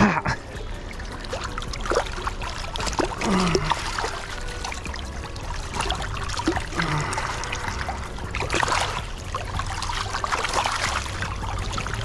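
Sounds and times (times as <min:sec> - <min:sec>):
water splashes: 0:00.2 - 0:12.0
river water rushing: 0:00.5 - 0:12.0.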